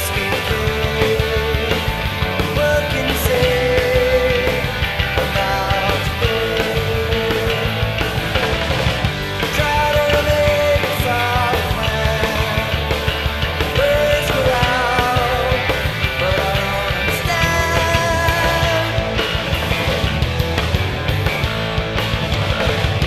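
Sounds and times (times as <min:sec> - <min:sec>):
bass guitar: 0:00.0 - 0:23.0
drums: 0:00.0 - 0:23.0
electric guitars: 0:00.0 - 0:23.0.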